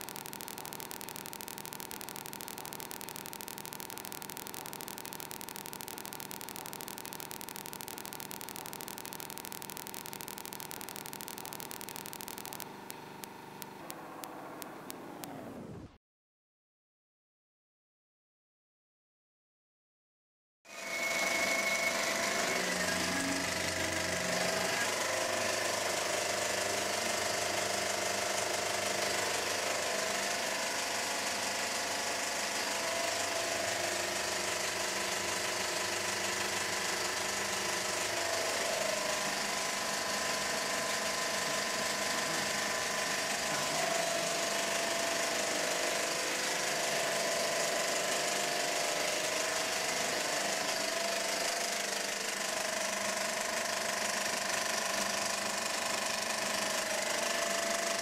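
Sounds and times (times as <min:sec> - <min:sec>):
film projector running: 0:00.0 - 0:15.2, 0:21.9 - 0:58.0.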